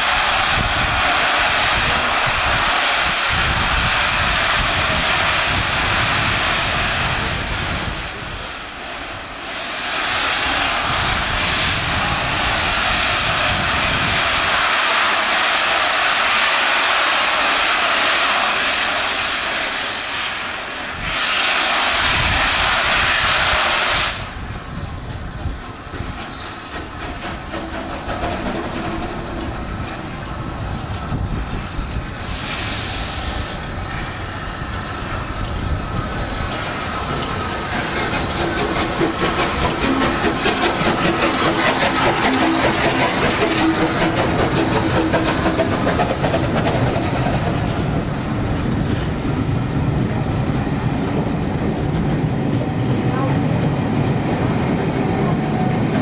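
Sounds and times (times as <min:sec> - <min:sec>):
steam locomotive hissing: 0:00.0 - 0:52.0.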